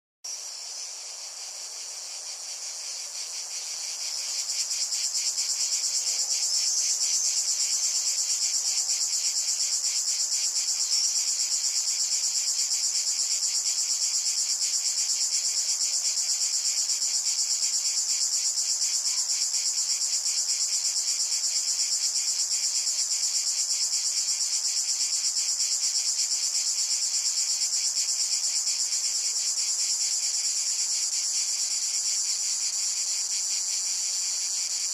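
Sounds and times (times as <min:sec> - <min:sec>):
insects chirring: 0:00.3 - 0:34.9.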